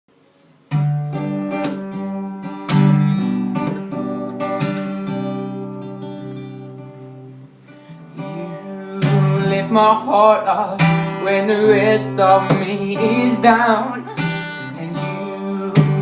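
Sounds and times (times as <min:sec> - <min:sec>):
acoustic guitar strummed chords: 0:00.1 - 0:16.0.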